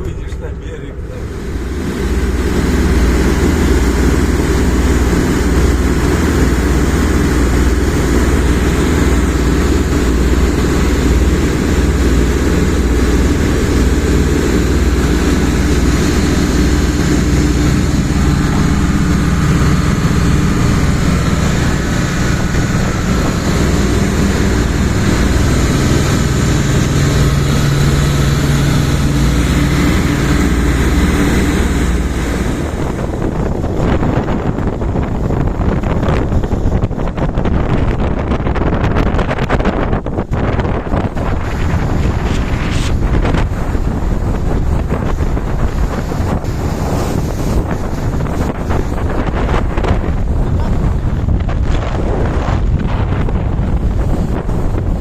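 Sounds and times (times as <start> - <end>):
boat engine running: 0.0 - 55.0
low steady drone: 0.0 - 55.0
wind and water rushing: 0.0 - 55.0.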